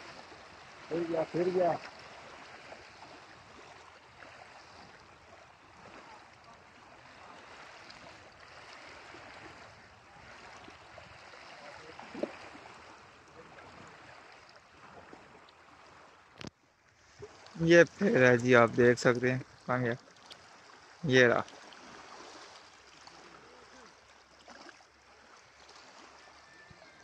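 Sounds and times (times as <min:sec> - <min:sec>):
water lapping at shoreline: 0:00.0 - 0:27.0.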